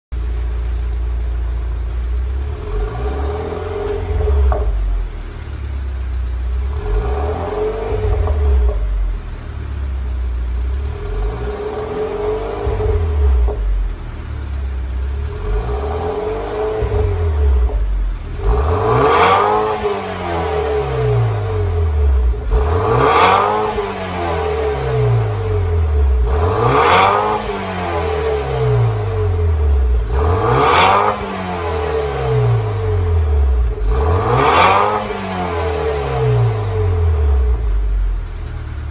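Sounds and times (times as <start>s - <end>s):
car exhaust revving: 0.2s - 38.9s.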